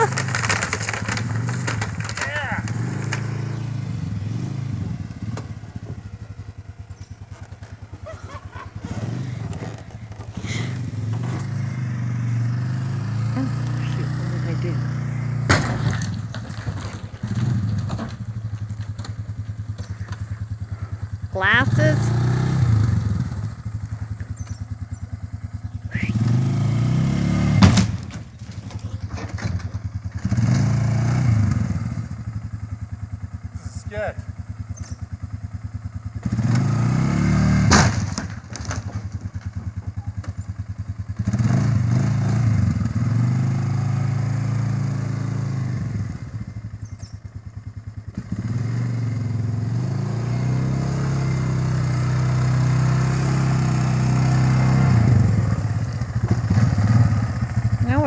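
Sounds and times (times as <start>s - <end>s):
atv engine idling lumpily: 0.0s - 58.0s.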